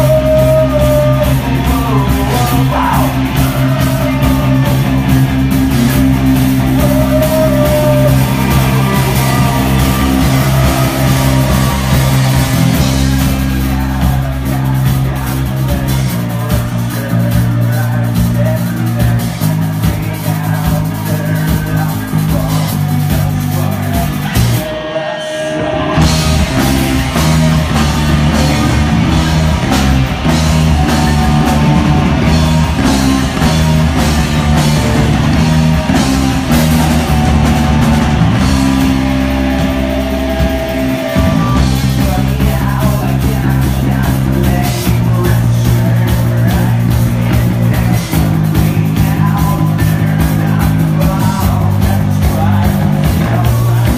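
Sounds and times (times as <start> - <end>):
drum kit: 0.0 - 53.9
electric guitars: 0.0 - 53.9
person singing: 0.0 - 53.9.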